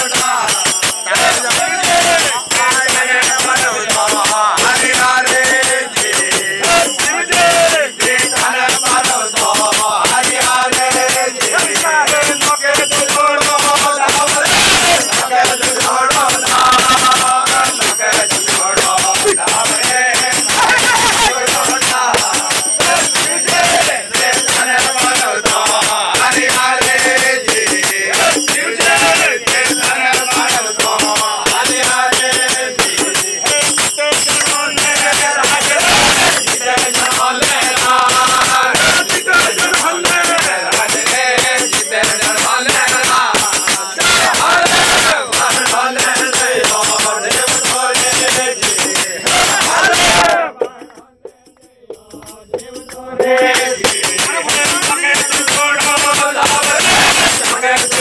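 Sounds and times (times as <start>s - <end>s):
hand cymbals striking a beat: 0.0s - 58.0s
men singing in chorus: 0.0s - 58.0s.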